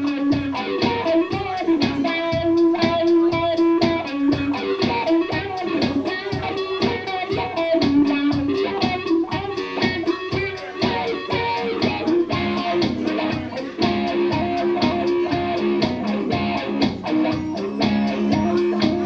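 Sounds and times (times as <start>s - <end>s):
electric guitar strumming: 0.0s - 19.0s.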